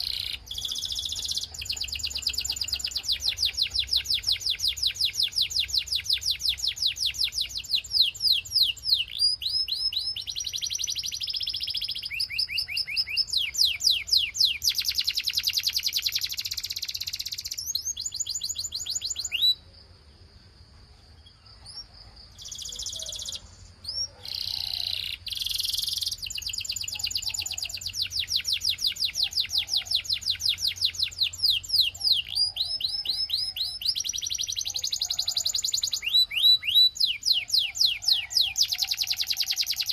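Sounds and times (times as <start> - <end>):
canary singing trills: 0.0 - 19.8, 21.0 - 39.9.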